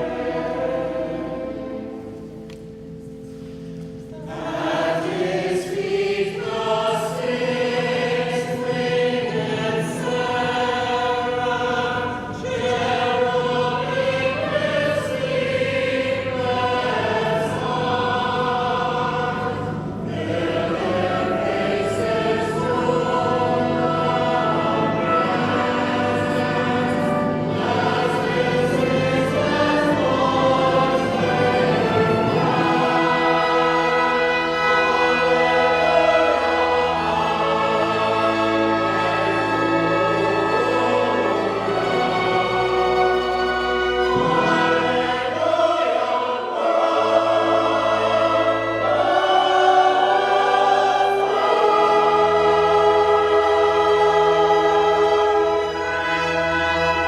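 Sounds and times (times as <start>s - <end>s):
choir singing sacred music: 0.0s - 57.0s
held low accompanying notes: 0.0s - 57.0s.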